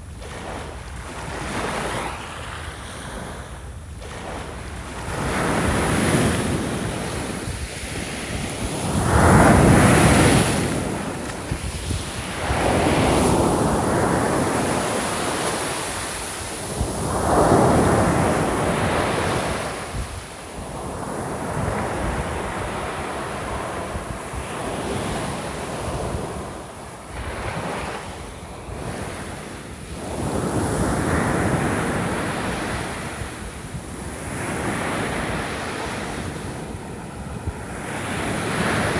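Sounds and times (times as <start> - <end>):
small waves breaking on shore: 0.0 - 38.9
wind buffeting microphone: 4.2 - 38.9.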